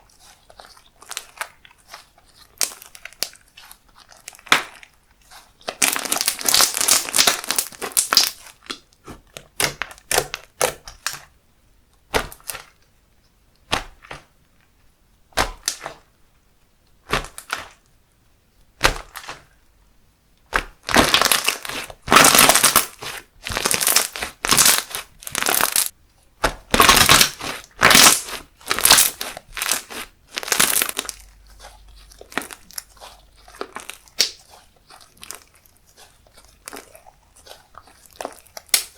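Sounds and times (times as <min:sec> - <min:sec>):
slime crackling and popping: 0:00.1 - 0:11.3, 0:12.1 - 0:12.8, 0:15.4 - 0:16.1, 0:17.1 - 0:17.8, 0:20.4 - 0:38.9.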